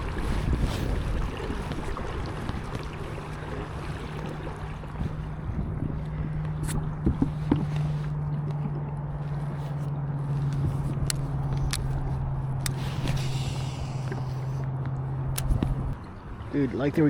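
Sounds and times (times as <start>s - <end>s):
pedal drive humming: 0.0s - 17.0s
water noise: 0.0s - 17.0s
wind: 0.0s - 17.0s.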